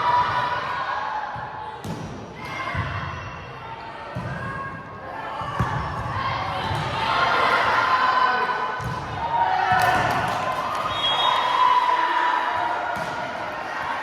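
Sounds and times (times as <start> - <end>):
players and spectators voices: 0.0 - 14.0.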